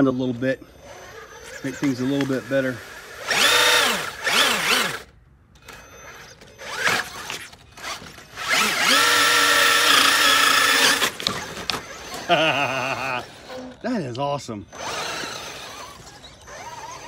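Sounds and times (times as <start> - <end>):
rc car motor whining: 0.6 - 17.0.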